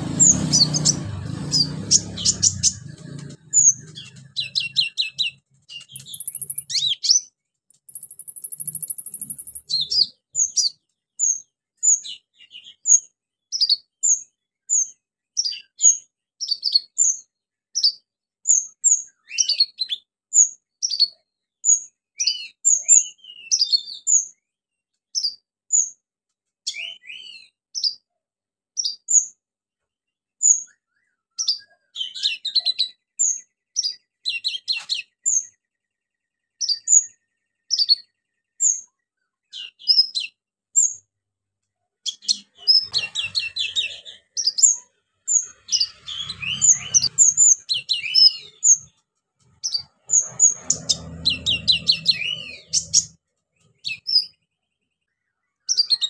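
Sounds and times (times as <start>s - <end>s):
sunbird singing: 0.0s - 24.6s, 30.1s - 41.1s, 42.0s - 49.0s, 49.6s - 56.0s.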